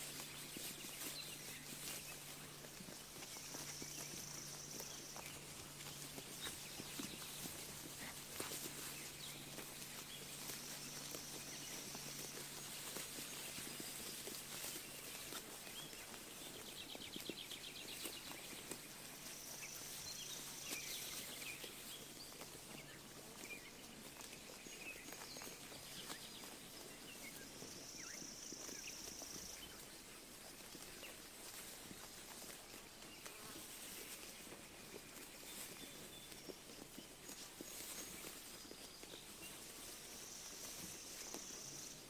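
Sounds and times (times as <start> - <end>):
sheep biting and chewing grass: 0.0 - 42.0.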